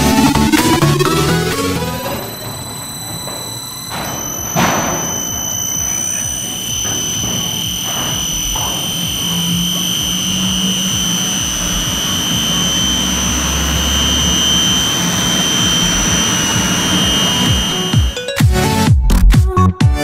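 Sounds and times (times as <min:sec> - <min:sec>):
water pumps whining and humming: 0:00.0 - 0:18.5.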